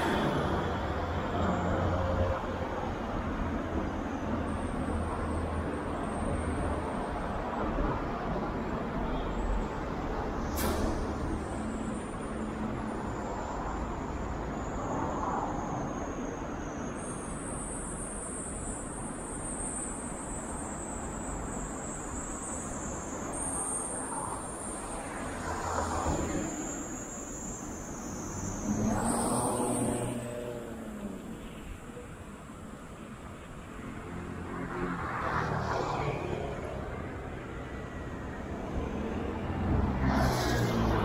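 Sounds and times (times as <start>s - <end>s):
cars passing: 0.0s - 17.8s, 20.0s - 41.0s.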